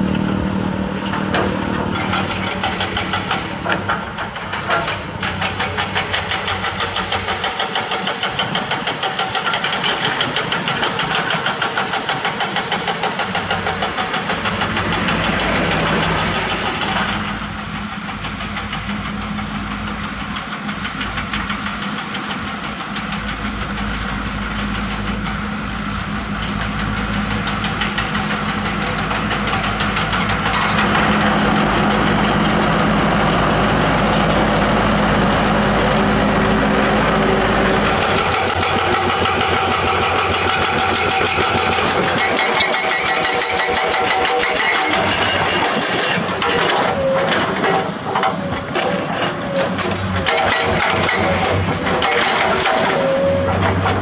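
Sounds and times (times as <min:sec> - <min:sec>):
bulldozer engine humming: 0:00.0 - 0:54.0
excavator diesel engine pulsing: 0:00.0 - 0:54.0.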